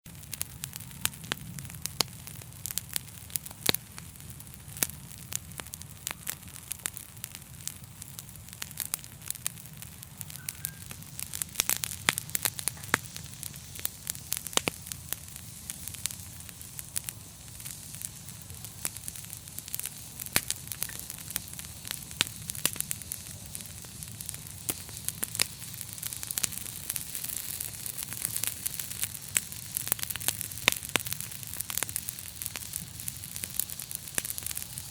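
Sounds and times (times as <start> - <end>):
fire crackling in a fireplace: 0.1 - 34.9
sharp pops of fire: 0.1 - 34.9.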